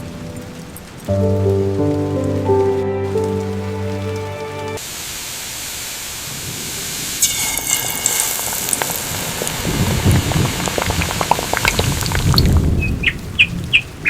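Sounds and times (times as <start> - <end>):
raindrops ticking on a surface: 0.0 - 4.8, 6.1 - 14.0
rain falling: 0.0 - 14.0.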